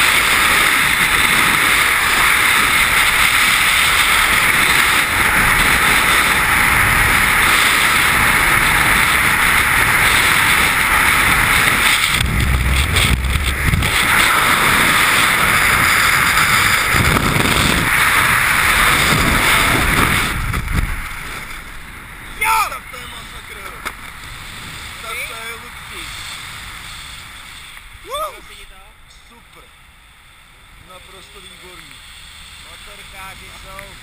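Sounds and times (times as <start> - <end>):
wind rushing over microphone: 0.0 - 28.5.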